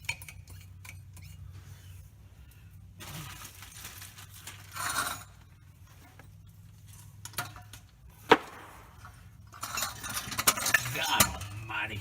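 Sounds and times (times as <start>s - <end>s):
metal tools clinking and scraping: 0.0s - 2.0s, 3.0s - 7.9s, 8.7s - 12.0s.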